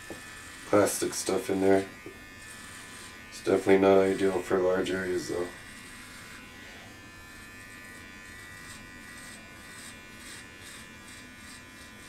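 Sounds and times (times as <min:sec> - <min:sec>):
electric trimmer buzzing: 0:00.0 - 0:12.0
trimmer rasping over hair: 0:00.0 - 0:12.0.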